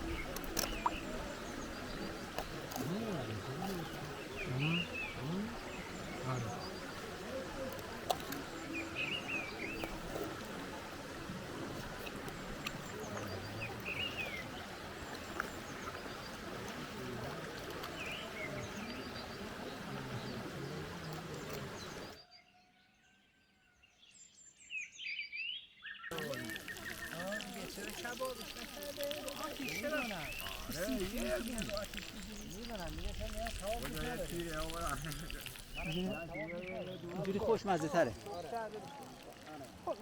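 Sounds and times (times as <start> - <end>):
birds chirping: 0.0 - 23.2, 24.6 - 40.0.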